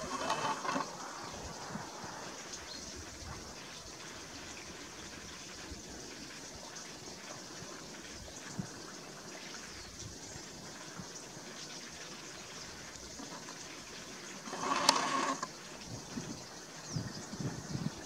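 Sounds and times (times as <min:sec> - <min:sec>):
faint water noise: 0:00.0 - 0:18.0.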